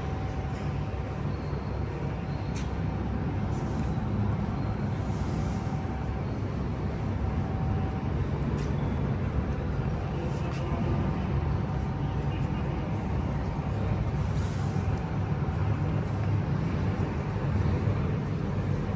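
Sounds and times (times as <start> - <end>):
faint constant hum: 0.0 - 18.9
rumble of trains and crowd: 0.0 - 18.9.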